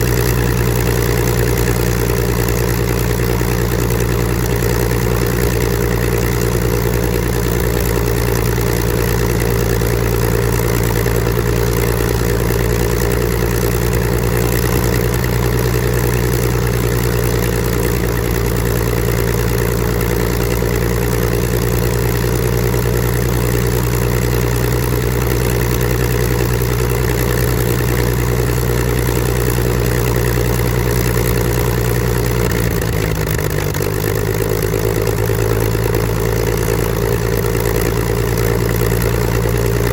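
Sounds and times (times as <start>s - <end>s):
aircraft engine and propeller running: 0.0s - 39.9s.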